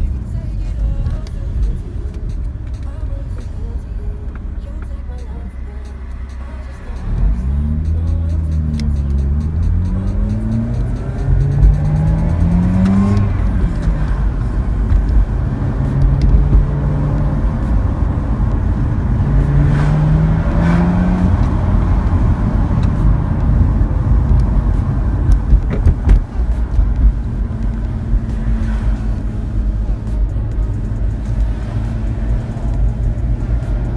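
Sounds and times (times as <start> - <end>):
rotary engine revving: 0.0 - 33.9.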